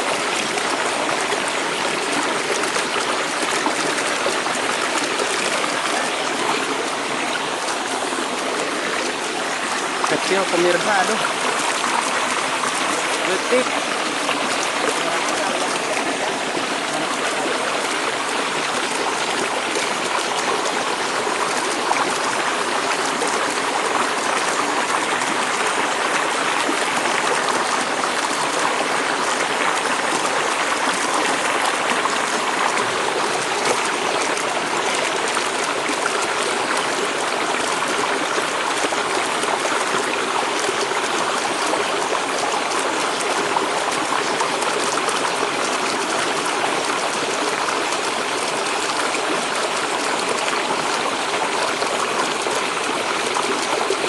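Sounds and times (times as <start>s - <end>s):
stream water pouring over a drop: 0.0s - 54.0s.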